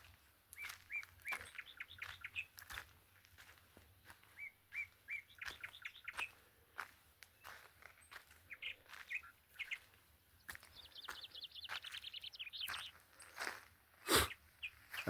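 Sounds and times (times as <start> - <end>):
birds singing whistled notes: 0.5 - 2.8, 4.0 - 6.4, 7.4 - 15.0
bird chirps: 0.5 - 2.9, 4.0 - 6.4, 7.4 - 15.0.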